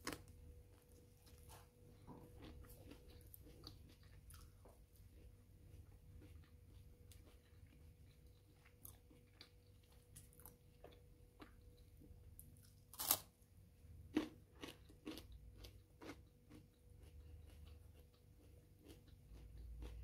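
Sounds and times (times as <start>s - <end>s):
chewing crunchy food: 0.0s - 13.3s, 13.9s - 20.0s.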